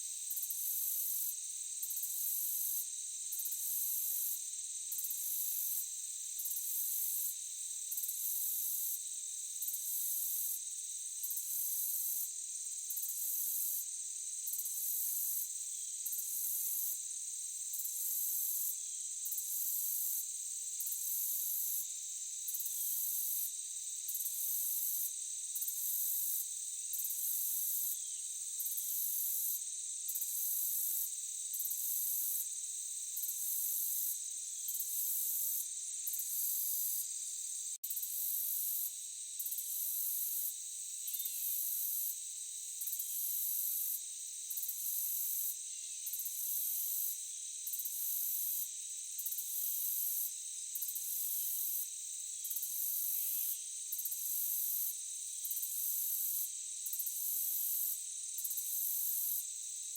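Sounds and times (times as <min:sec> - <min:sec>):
insects trilling: 0:00.2 - 0:59.9.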